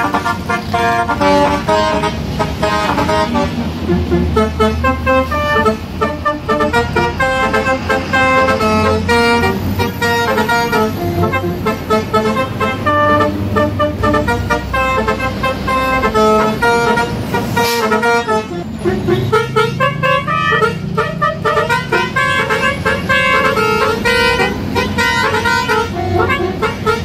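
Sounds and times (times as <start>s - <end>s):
diesel trucks rumbling: 0.0s - 27.0s
truck air horn playing a tune: 0.0s - 27.0s.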